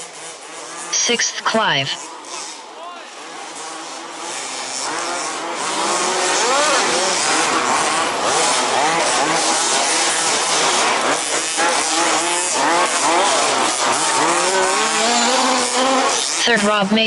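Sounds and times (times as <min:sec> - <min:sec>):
rc buggy engines revving: 0:00.0 - 0:17.0.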